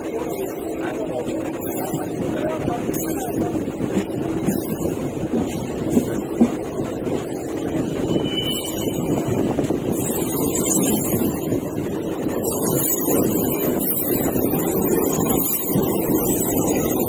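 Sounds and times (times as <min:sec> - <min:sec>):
train wheels rumbling on tracks: 0:00.0 - 0:17.0
wind on microphone: 0:01.3 - 0:17.0.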